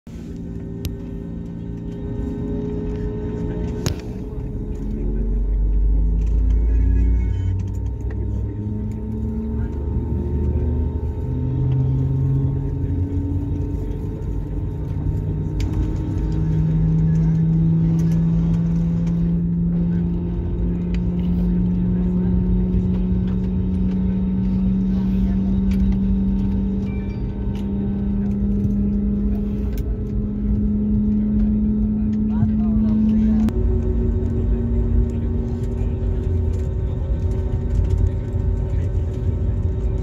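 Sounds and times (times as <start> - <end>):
jet engines humming in cabin: 0.1 - 40.0.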